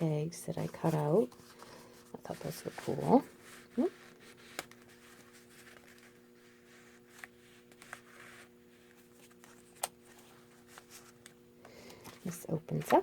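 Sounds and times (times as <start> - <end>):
low electrical hum: 0.0 - 13.0
paper rustling: 0.6 - 11.4.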